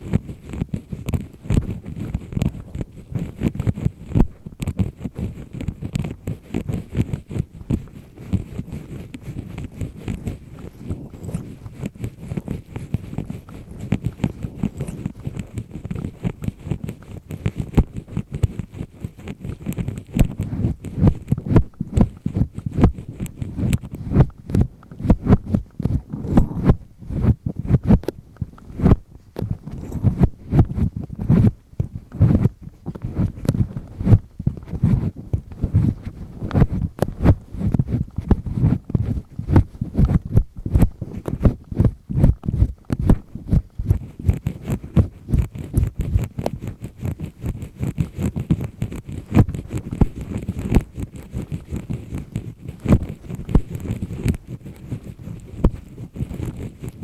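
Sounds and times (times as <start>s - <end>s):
ear pick scraping inside ear: 0.0s - 57.0s.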